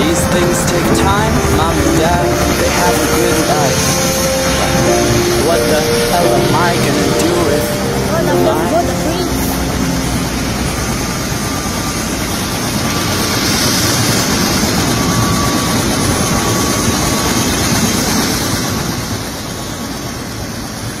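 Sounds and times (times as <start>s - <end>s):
faint high whine: 0.0s - 19.2s
helicopter turbine engine rushing: 0.0s - 21.0s.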